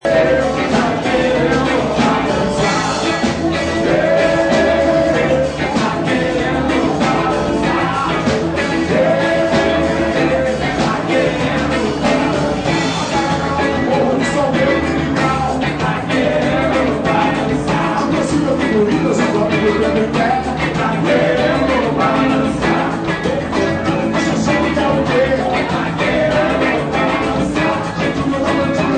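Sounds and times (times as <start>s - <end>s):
person singing: 0.0s - 28.9s
up-tempo band music: 0.0s - 28.9s.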